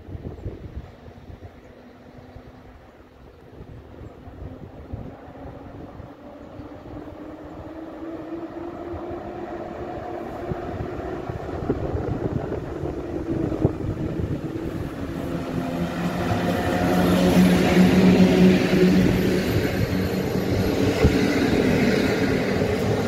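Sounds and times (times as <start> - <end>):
rail noise: 0.0 - 23.0
electric train approaching: 0.1 - 23.0.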